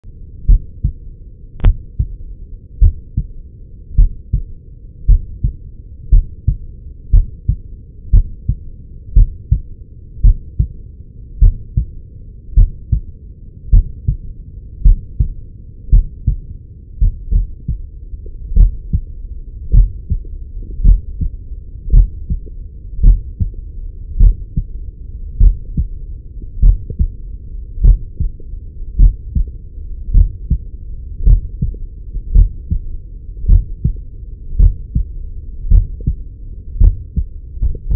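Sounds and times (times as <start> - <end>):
heartbeat through a stethoscope: 0.4 - 1.0, 1.6 - 2.2, 2.8 - 10.8, 11.4 - 27.2, 27.8 - 37.9.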